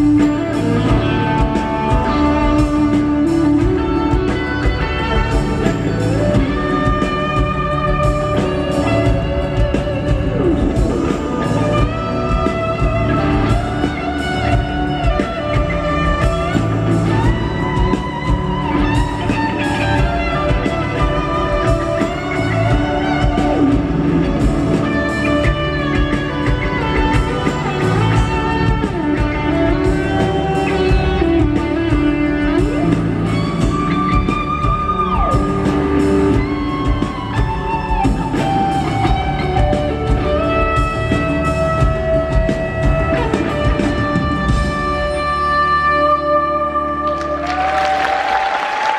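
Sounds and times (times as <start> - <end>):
electric guitar solo: 0.0 - 48.9
live rock band with drums: 0.0 - 48.9.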